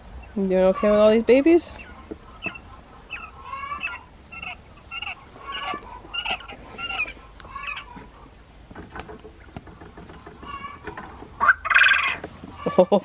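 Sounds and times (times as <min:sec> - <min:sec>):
quail chirping calls: 0:00.0 - 0:08.4, 0:10.1 - 0:13.0.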